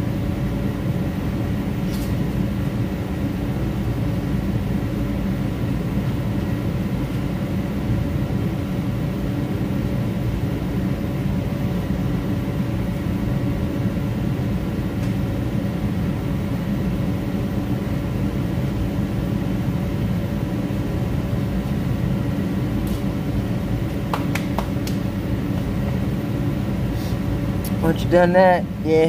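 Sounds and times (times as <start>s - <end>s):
motor running steadily: 0.0s - 29.0s.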